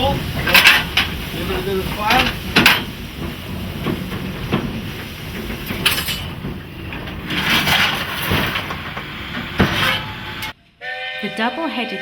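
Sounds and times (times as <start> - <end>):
steam hissing: 0.0 - 10.5
sharp metallic clanks: 0.0 - 10.6
steam locomotive rumble: 0.0 - 10.6.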